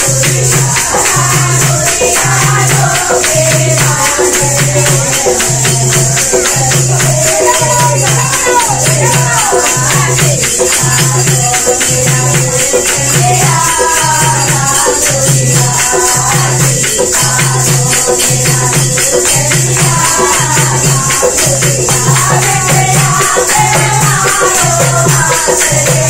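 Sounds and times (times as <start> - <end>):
jingling percussion: 0.0 - 26.0
women singing: 0.0 - 26.0.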